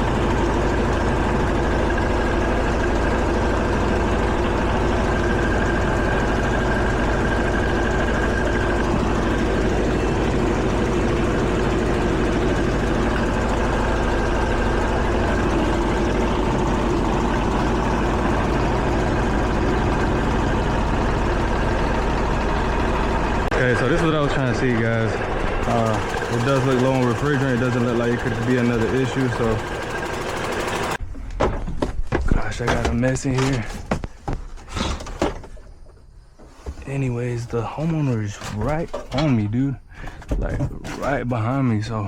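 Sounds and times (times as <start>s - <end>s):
air conditioner unit humming: 0.0s - 36.3s.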